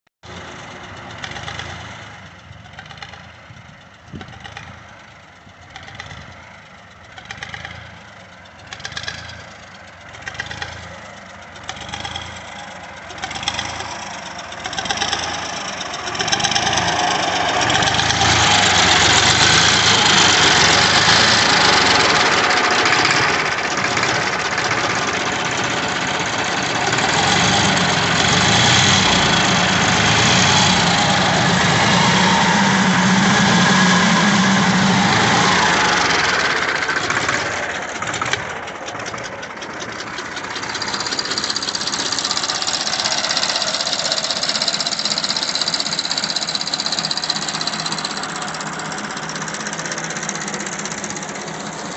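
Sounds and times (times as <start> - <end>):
tractor diesel engine starting: 0.2 - 51.9.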